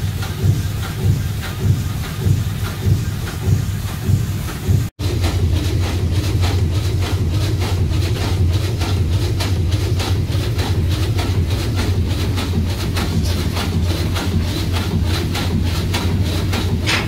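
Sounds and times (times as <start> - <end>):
steam engine beating rhythmically: 0.0 - 17.0.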